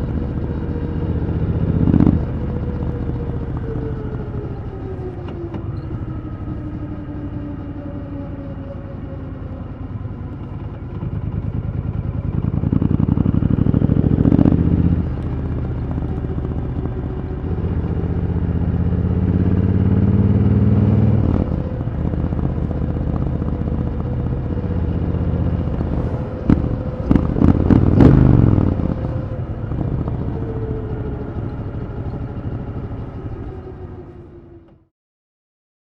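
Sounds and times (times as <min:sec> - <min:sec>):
motorcycle engine at speed: 0:00.0 - 0:34.9.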